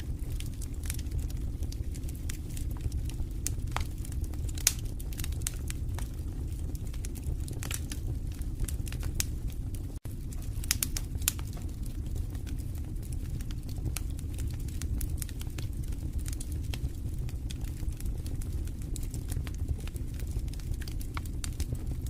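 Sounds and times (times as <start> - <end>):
low rumble of flames: 0.0 - 22.0
wood fire crackles and pops: 0.0 - 22.0.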